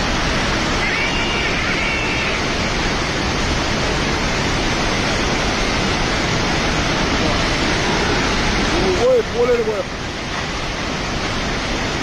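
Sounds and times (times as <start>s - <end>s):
floodwater rushing roar: 0.0s - 12.0s.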